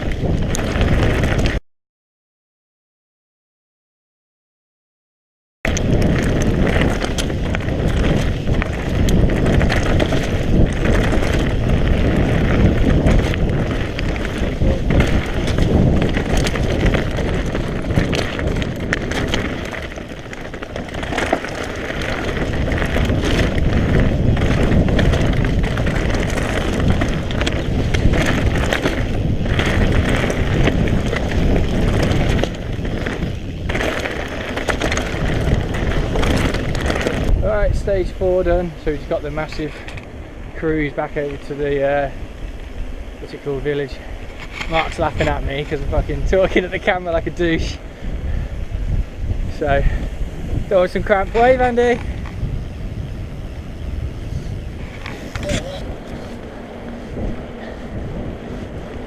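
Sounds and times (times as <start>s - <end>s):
bike tyre roar on dirt: 0.0s - 1.6s, 5.7s - 59.0s
wind noise on microphone: 0.0s - 1.6s, 5.6s - 59.0s
bike clattering: 5.7s - 59.0s.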